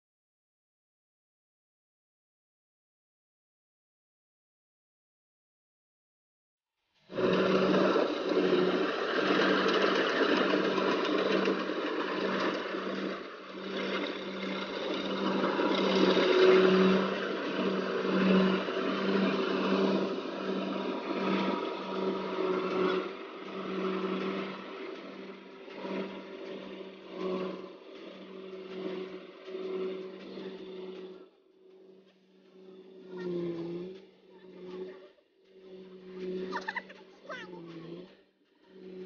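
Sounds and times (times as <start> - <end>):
combine harvester engine drone: 7.0 - 39.0
mechanical clatter: 7.0 - 39.0.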